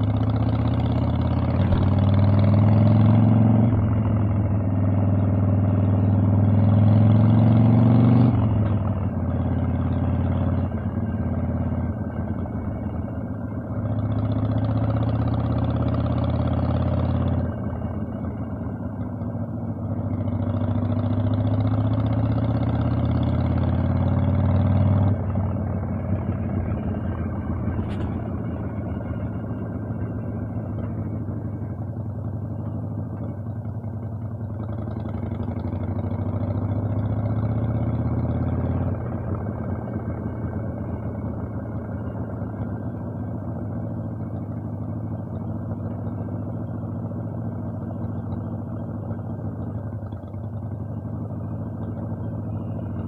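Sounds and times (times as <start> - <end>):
motorcycle engine under throttle: 0.0 - 53.0.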